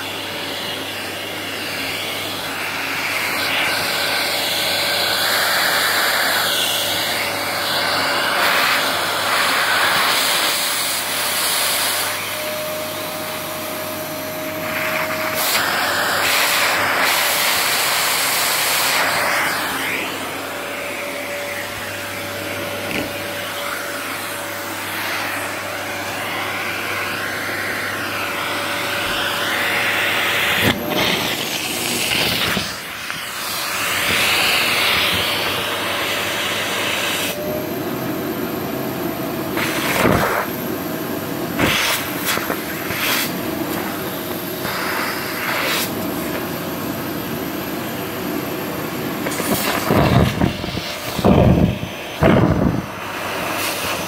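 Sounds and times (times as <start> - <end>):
vacuum cleaner sucking: 0.0 - 54.0.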